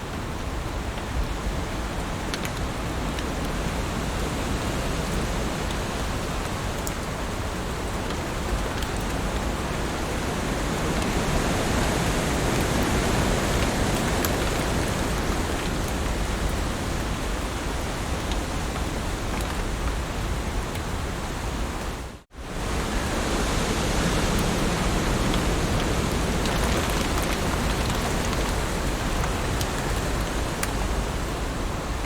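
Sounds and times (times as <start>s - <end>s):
heavy rain on leaves: 0.0s - 32.0s.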